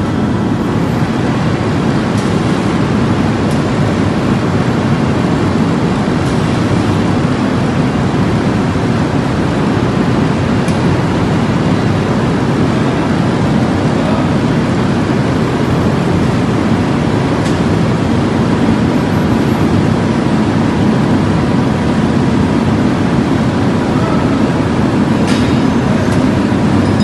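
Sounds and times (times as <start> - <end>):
forging press machinery noise: 0.0 - 27.0.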